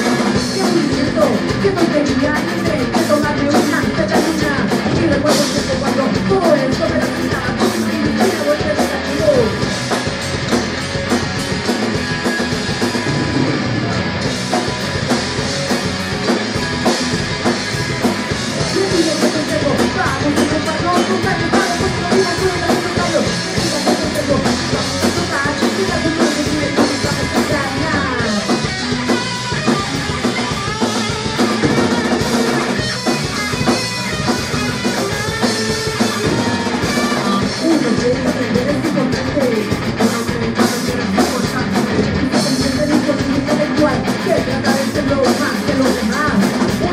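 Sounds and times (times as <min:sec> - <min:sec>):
bass guitar: 0:00.0 - 0:46.9
drum kit: 0:00.0 - 0:46.9
electric guitar: 0:00.0 - 0:46.9.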